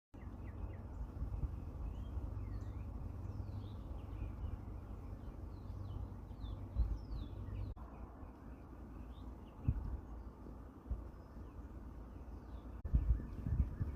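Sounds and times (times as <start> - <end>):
birds chirping: 0.1 - 13.9
low outdoor rumble: 0.2 - 13.9.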